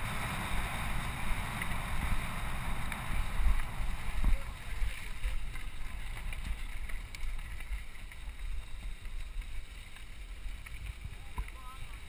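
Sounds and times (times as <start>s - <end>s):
tyres crunching on gravel: 0.0s - 12.0s.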